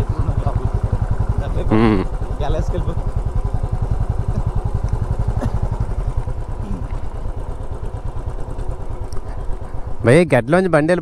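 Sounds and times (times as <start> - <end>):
motorcycle engine throbbing: 0.0 - 11.0.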